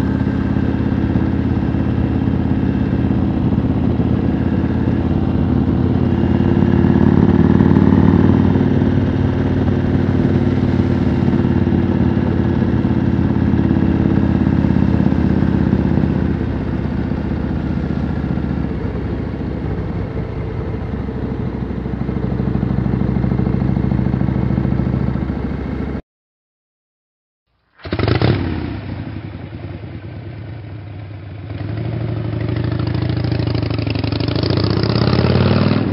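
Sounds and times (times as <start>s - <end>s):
motorcycle engine revving: 0.0s - 26.0s, 27.7s - 35.9s
motorcycle engine running: 0.0s - 26.0s, 27.7s - 35.9s.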